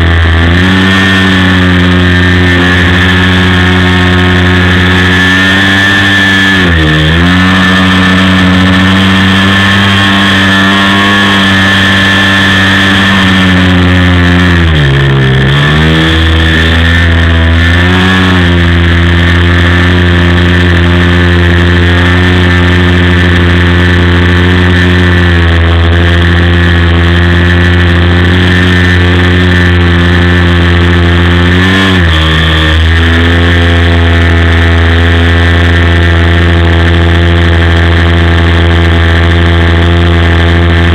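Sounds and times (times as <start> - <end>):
model plane engine running: 0.0 - 40.9.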